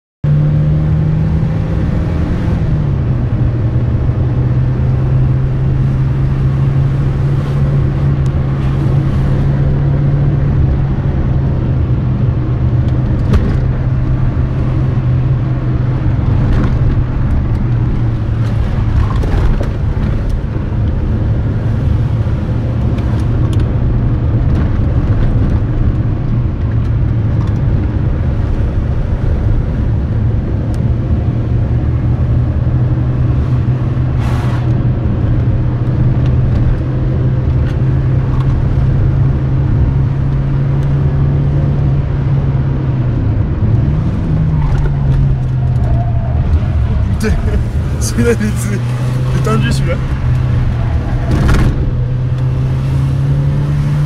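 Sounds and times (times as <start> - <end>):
road noise rumble: 0.2 - 54.0
car engine running: 0.7 - 54.0.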